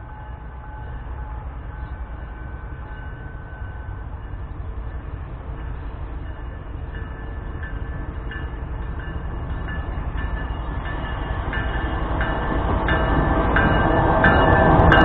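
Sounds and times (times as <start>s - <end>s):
locomotive engine rumble: 0.0s - 15.0s
train wheel noise: 0.0s - 15.0s.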